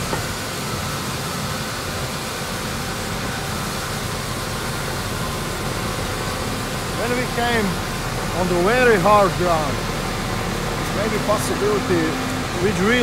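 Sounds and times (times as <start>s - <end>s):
depth vibrator humming: 0.0s - 13.0s
diesel engine drone: 0.0s - 13.0s.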